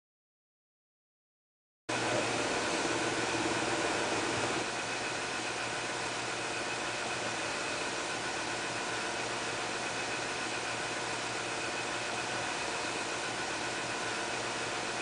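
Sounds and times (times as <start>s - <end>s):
electric fan whirring: 1.9s - 15.0s
low motor hum: 1.9s - 15.0s.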